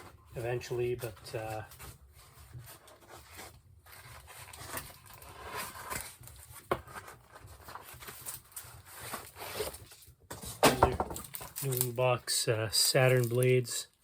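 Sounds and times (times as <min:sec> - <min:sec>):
cardboard rustling and scraping: 0:00.0 - 0:12.2.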